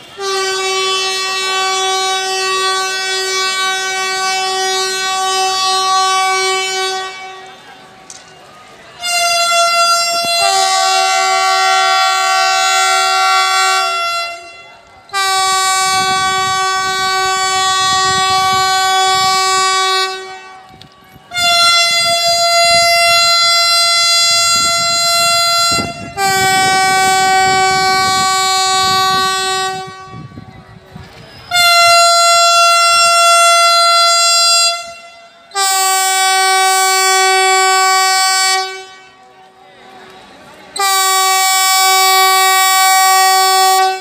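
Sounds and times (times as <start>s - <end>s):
train horn blasts: 0.0s - 7.9s, 8.9s - 30.6s, 31.4s - 39.6s, 40.8s - 44.0s.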